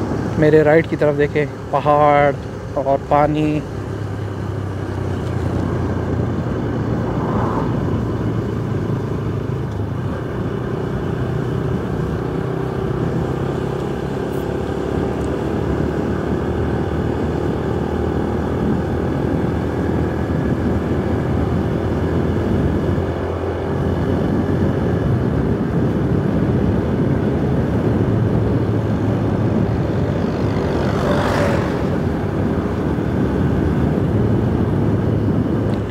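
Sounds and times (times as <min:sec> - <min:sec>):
motorcycle engine running: 0:00.0 - 0:35.9
wind and road rush: 0:00.0 - 0:35.9.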